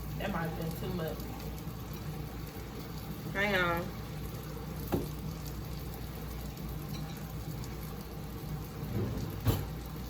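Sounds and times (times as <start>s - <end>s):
sausage sizzling in a frying pan: 0.0s - 10.0s.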